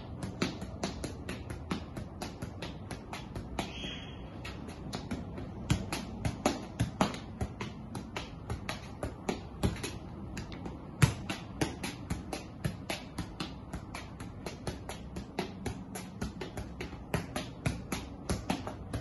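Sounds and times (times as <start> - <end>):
football taps off foot: 0.0 - 19.0.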